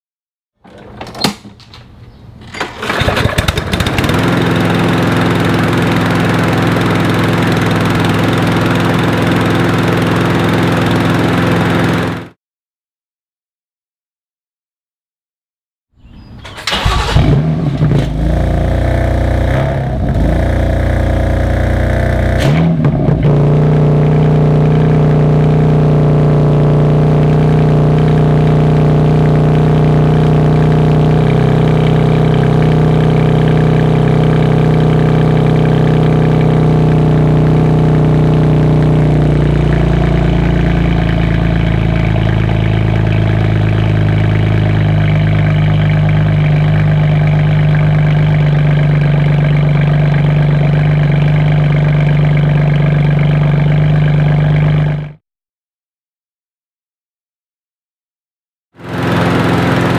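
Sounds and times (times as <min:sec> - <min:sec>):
petrol engine starting and idling: 0:00.6 - 0:12.3, 0:16.0 - 0:54.9, 0:58.8 - 0:59.9.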